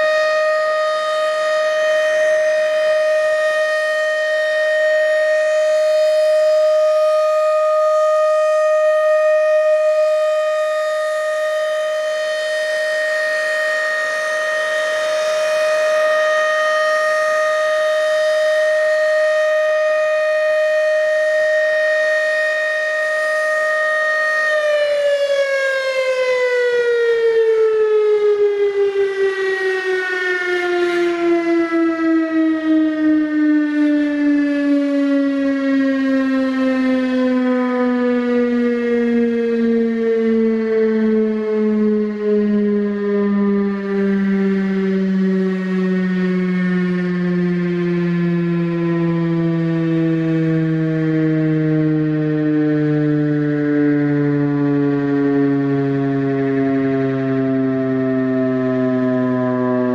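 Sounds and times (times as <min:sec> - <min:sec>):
warning siren tone: 0:00.0 - 0:59.9.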